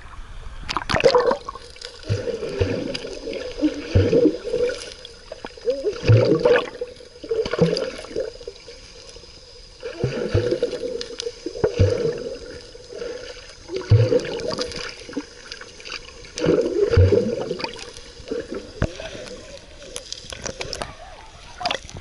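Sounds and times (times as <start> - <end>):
sea water splashing and sloshing: 0.6 - 22.0.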